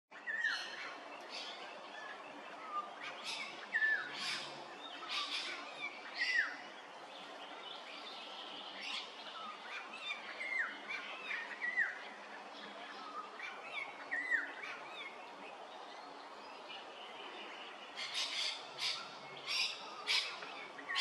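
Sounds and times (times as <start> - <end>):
outdoor background noise: 0.1 - 21.0
small birds calling: 0.1 - 21.0.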